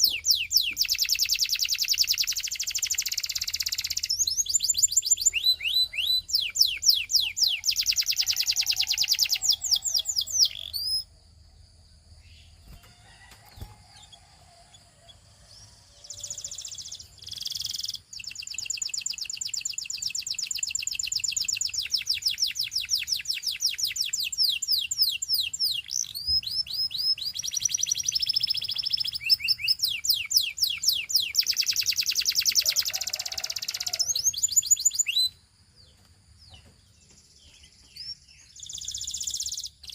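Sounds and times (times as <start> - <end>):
canary singing trills: 0.0 - 11.6, 12.2 - 39.9.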